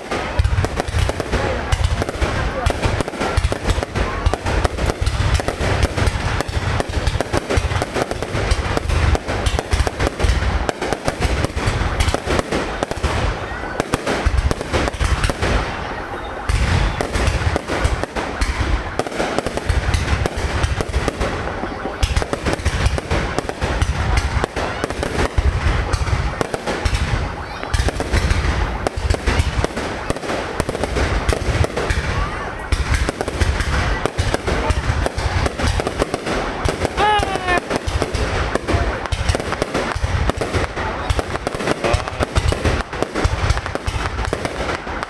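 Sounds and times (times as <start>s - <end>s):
deep firework booms: 0.0s - 45.0s
firework shells bursting and crackling: 0.0s - 45.0s
rapid firework pops: 0.0s - 45.0s.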